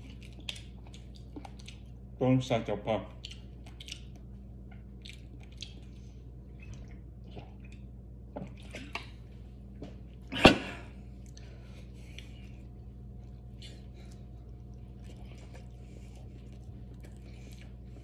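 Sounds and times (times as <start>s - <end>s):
person chewing: 0.0s - 2.1s, 3.1s - 9.3s, 11.0s - 18.0s
low room hum: 0.0s - 18.0s.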